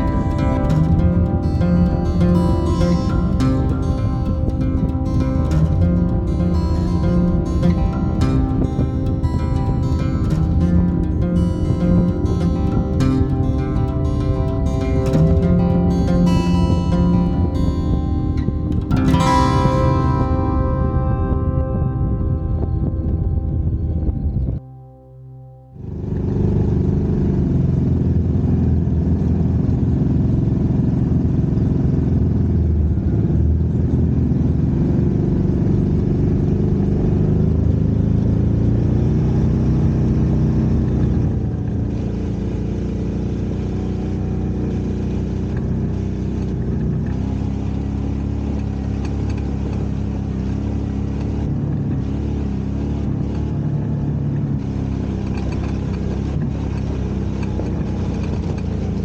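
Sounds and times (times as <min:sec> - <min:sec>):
off-road vehicle engine: 0:00.0 - 0:59.0.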